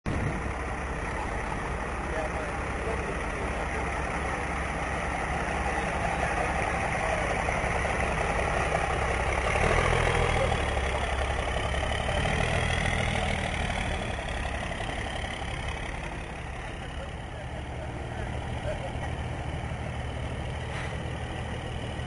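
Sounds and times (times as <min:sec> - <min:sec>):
truck engine idling: 0:00.1 - 0:22.0.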